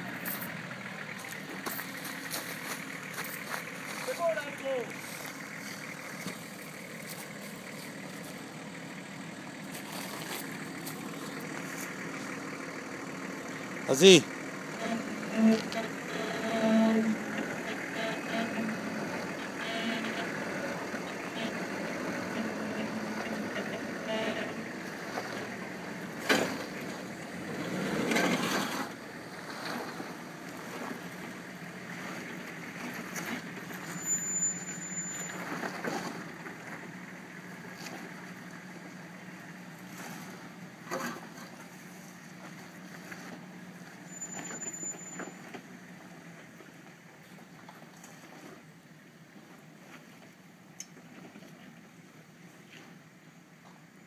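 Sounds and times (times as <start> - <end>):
tyres rumbling on ruts: 0.0 - 54.0
vehicle engine at low revs: 0.0 - 54.0.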